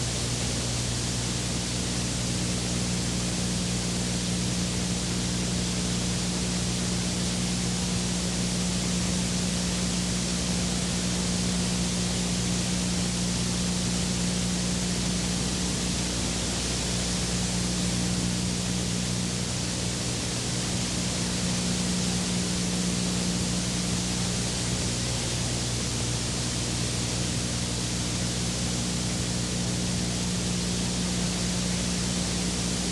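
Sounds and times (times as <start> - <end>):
low constant hum: 0.0 - 32.9.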